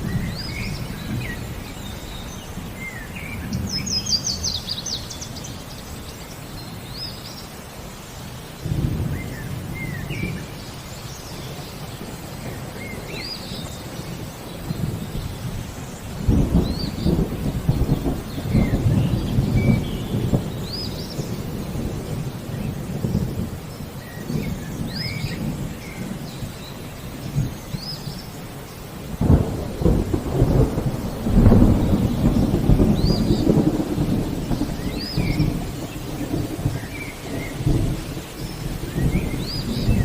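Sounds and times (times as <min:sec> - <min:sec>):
thunder rumbling: 0:00.0 - 0:06.1, 0:08.6 - 0:40.0
falling rain: 0:00.0 - 0:40.0.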